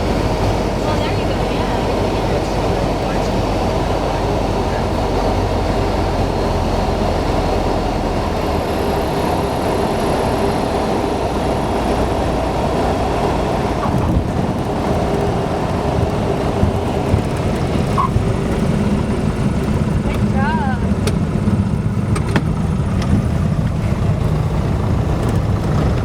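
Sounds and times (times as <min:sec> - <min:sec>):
airplane engine and propeller: 0:00.0 - 0:26.0.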